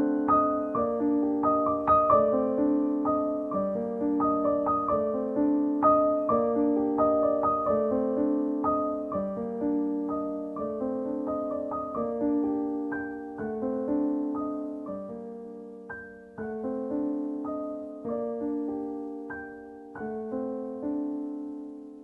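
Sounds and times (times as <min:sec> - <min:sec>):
soft piano music: 0:00.0 - 0:22.0.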